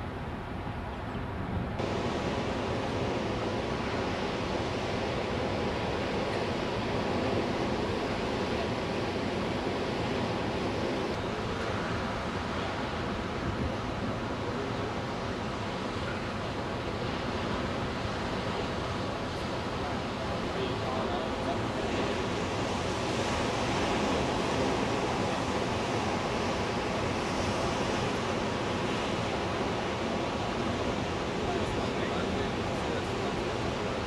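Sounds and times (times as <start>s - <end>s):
waves breaking on rocky shore: 1.8s - 34.0s.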